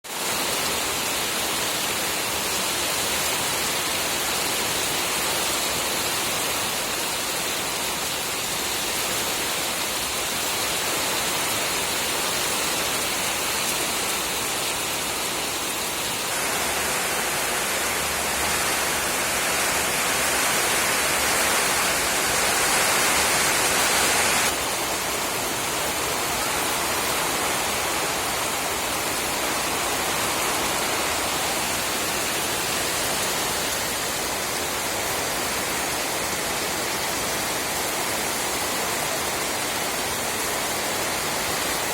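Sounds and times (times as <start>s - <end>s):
rain falling: 0.1s - 41.9s.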